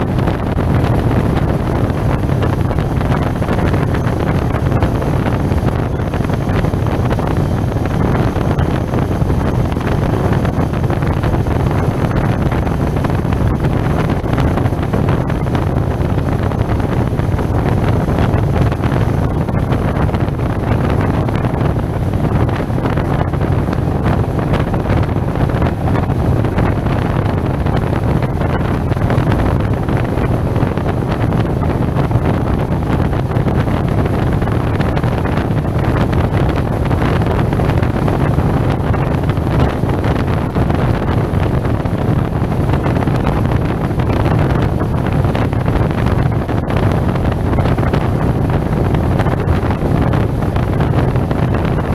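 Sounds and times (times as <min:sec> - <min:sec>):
road noise: 0:00.0 - 0:51.9
wind buffeting microphone: 0:00.0 - 0:51.9.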